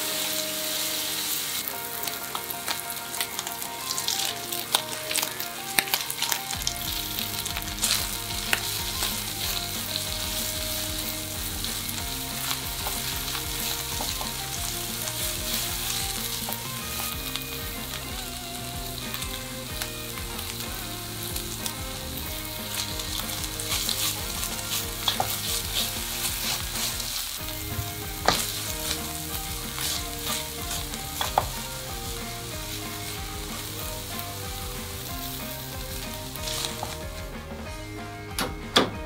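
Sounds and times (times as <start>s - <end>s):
meat sizzling in a frying pan: 0.0s - 37.8s
spatula scraping and knocking pan: 1.5s - 37.9s.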